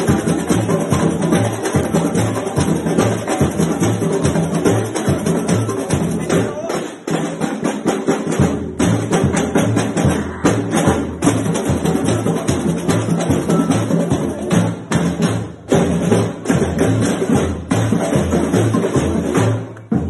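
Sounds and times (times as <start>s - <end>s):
samba percussion music: 0.0s - 20.0s.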